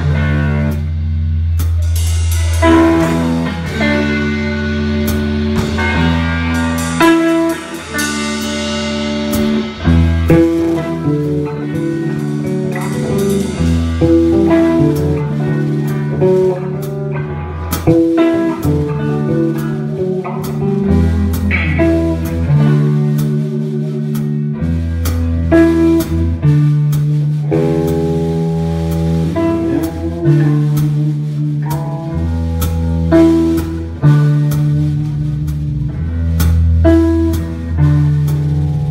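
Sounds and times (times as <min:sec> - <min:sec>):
blues rock band playing: 0:00.0 - 0:38.9.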